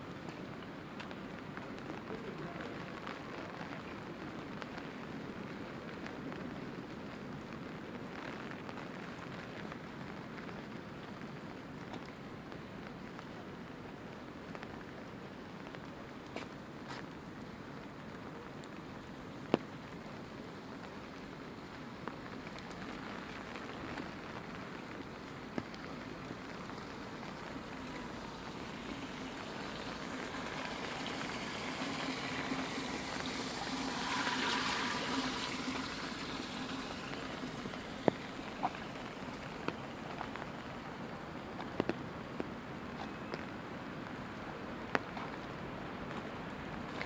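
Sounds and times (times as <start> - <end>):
rushing water: 0.0 - 13.2, 16.7 - 47.0
steady rain falling: 0.0 - 47.0.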